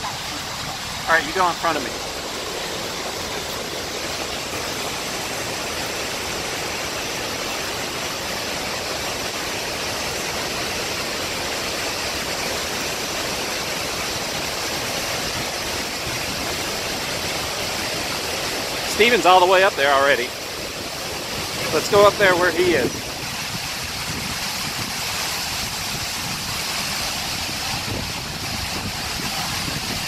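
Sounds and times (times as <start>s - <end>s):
waterfall rushing onto rocks: 0.0s - 30.0s.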